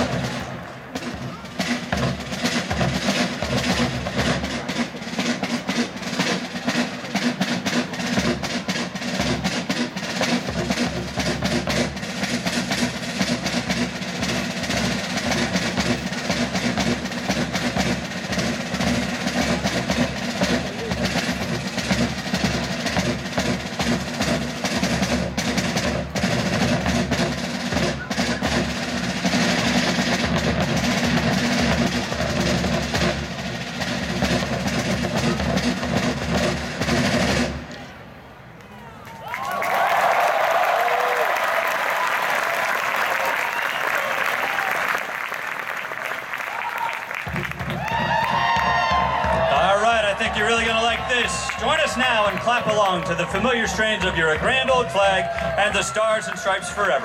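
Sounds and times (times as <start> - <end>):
rapid snare drumming: 0.0 - 37.8, 41.0 - 57.0
military band playing: 0.0 - 38.3, 40.4 - 57.0.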